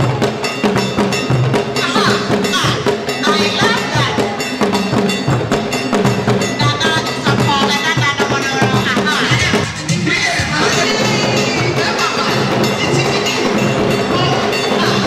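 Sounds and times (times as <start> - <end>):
dance music: 1.8 - 15.0.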